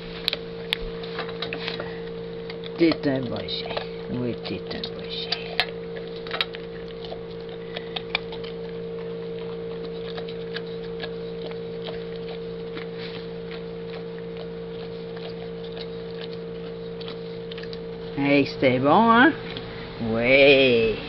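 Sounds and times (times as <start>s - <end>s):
dog crunching kibble in metal bowl: 0.0s - 20.4s
steady low hum: 0.0s - 21.0s.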